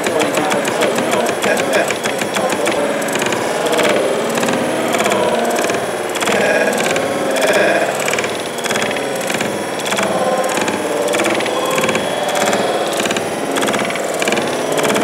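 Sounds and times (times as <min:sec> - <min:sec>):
small engine mechanical clatter: 0:00.0 - 0:15.0.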